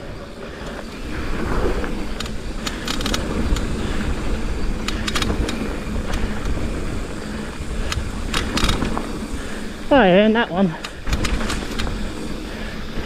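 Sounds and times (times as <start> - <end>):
tyres rumbling on dirt: 0.0 - 13.0
bike rattling clicks: 0.4 - 13.0.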